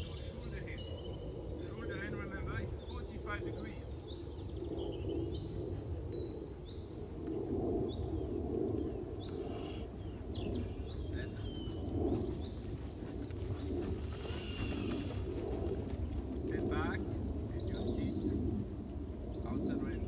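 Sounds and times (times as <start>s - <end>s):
low outdoor rumble: 0.0s - 20.0s
small birds singing: 0.0s - 20.0s.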